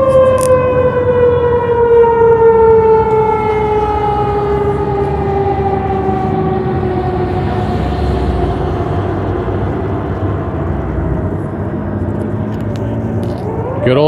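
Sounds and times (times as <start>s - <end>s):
mechanical siren wail falling: 0.0s - 12.4s, 13.0s - 14.0s.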